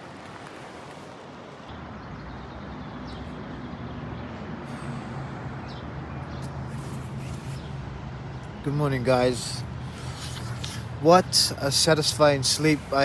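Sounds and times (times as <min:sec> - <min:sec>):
low engine-like hum: 0:01.7 - 0:13.0.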